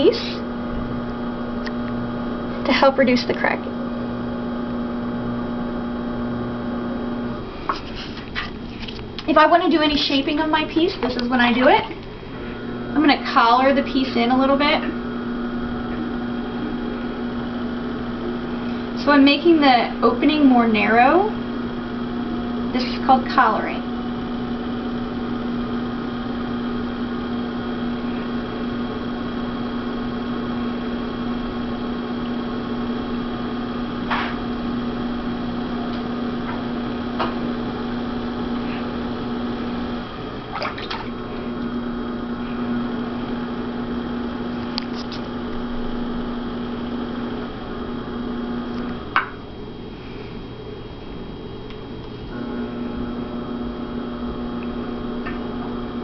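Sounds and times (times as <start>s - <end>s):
potter's wheel humming: 0.0s - 56.0s.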